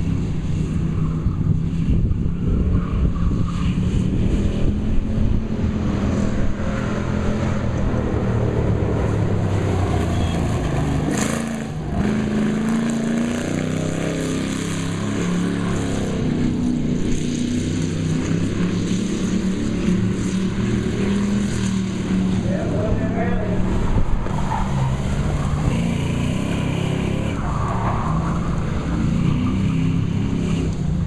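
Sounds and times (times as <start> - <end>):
race car engine running hard: 0.0 - 31.0.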